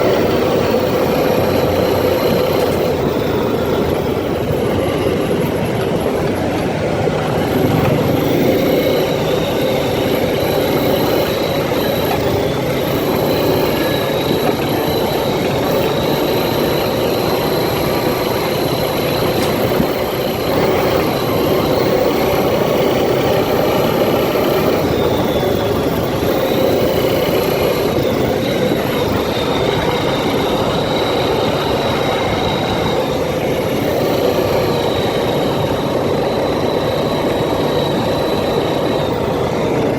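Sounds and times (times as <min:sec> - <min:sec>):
atv engine running: 0:00.0 - 0:39.9
high whine: 0:00.0 - 0:39.9
terrain rumble: 0:00.0 - 0:39.9.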